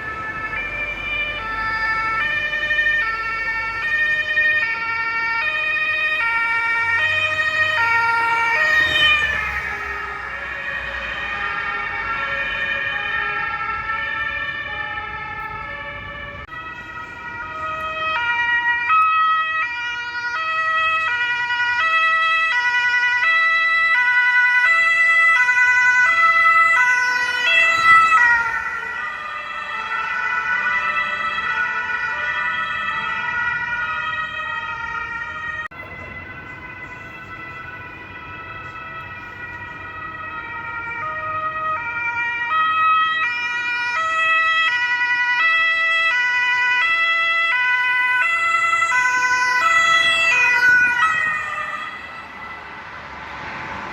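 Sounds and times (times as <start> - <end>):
two-tone police sirens: 0.0 - 53.9.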